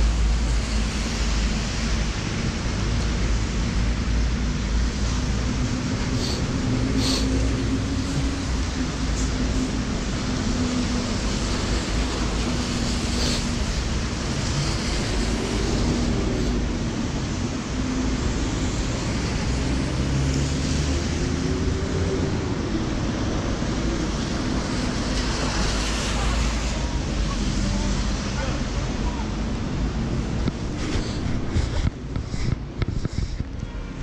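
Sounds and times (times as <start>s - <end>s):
rain on an umbrella: 0.0s - 31.9s
passing vehicle engines hum: 0.0s - 34.0s
traffic hiss on wet road: 0.0s - 34.0s.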